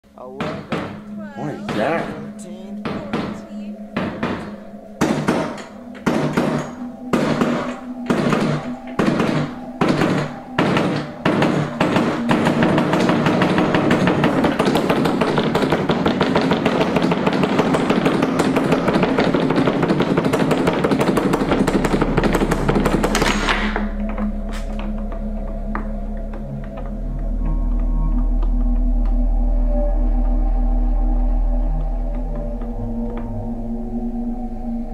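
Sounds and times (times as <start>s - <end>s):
steady low drone: 0.0s - 34.9s.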